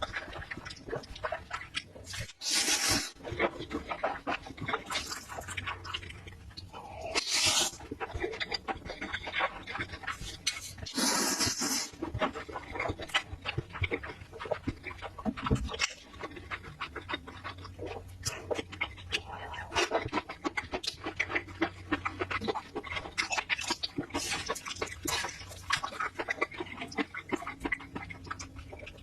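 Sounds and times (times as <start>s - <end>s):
wet chewing and slurping: 0.0s - 29.0s.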